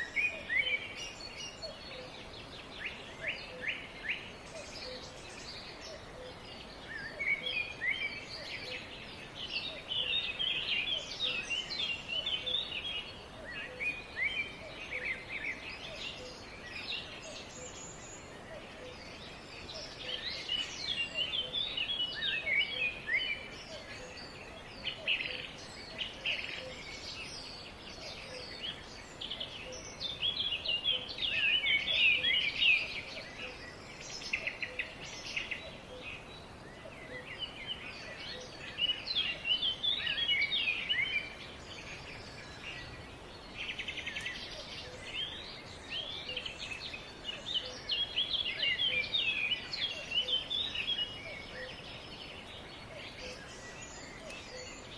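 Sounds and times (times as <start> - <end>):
faint background hiss: 0.0 - 54.9
songbirds chirping and twittering: 0.0 - 54.9.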